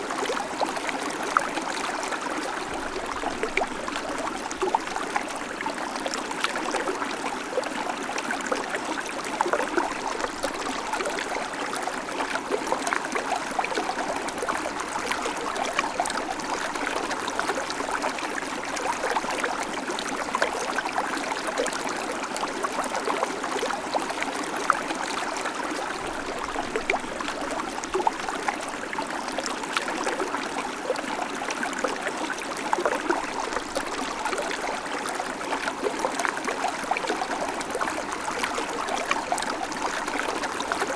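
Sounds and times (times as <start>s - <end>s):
creek water trickling over stones: 0.0s - 40.9s.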